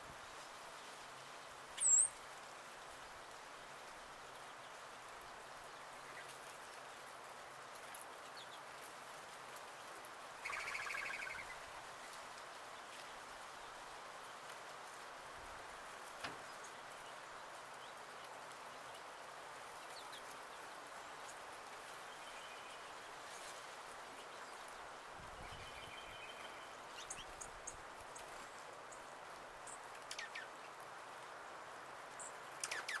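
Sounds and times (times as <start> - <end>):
steady outdoor hiss: 0.0 - 33.0
songbirds chirping: 0.2 - 33.0.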